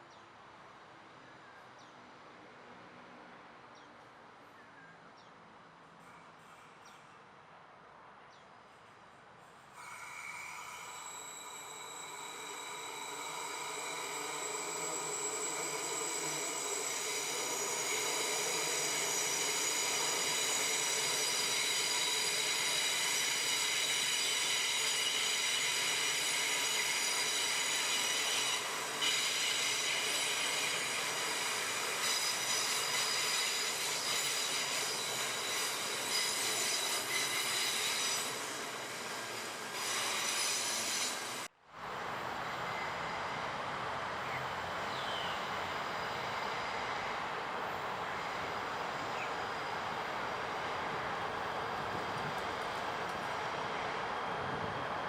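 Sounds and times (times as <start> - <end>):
train brakes squealing: 9.7 - 55.0.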